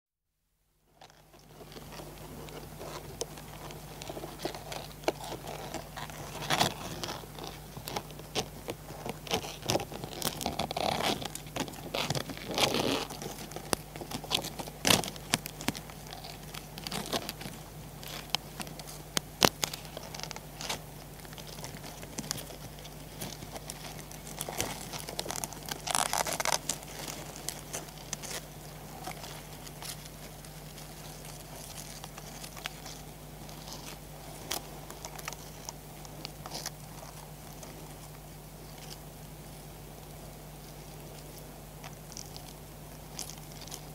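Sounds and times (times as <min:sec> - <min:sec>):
hermit crab shells clicking and scraping: 0:01.0 - 0:39.3, 0:39.9 - 0:43.9.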